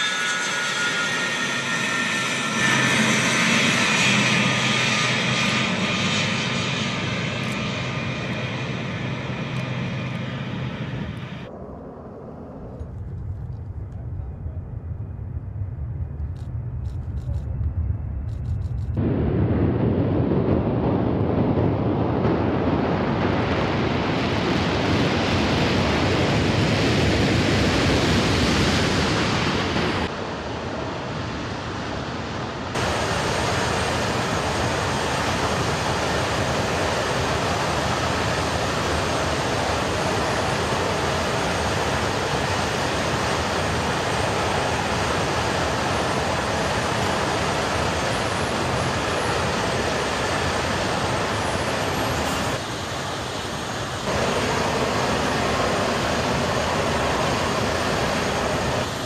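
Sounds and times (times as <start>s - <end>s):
faint high engine whine: 0.0s - 59.0s
jet engines rushing: 0.0s - 59.0s.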